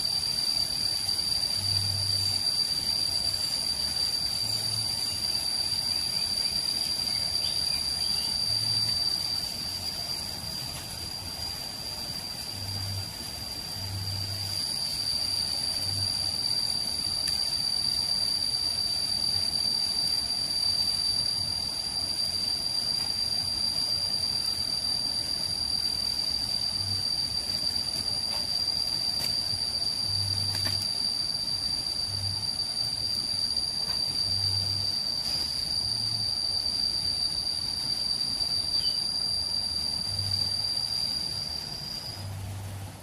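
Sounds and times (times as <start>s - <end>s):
insects chirring: 0.0s - 43.0s.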